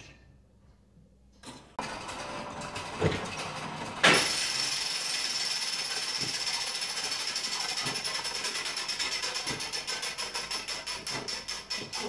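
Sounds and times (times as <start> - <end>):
ratcheting gear noise: 1.9 - 12.0.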